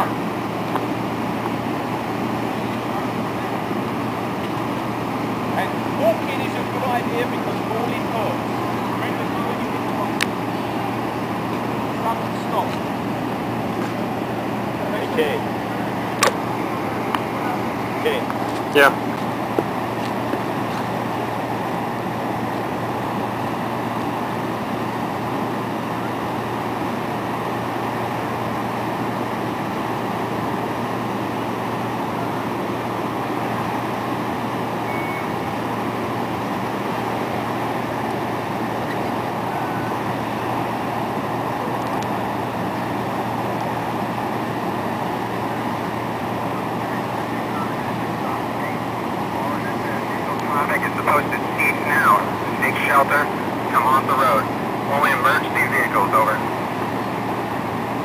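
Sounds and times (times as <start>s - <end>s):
constant low hum: 0.0s - 58.0s
machinery rushing noise: 0.0s - 58.0s.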